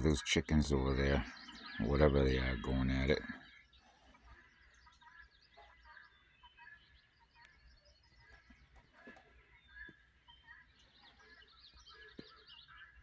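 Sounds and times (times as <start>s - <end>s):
birds chirping: 0.0s - 13.0s
distant fowl calling: 0.0s - 13.0s.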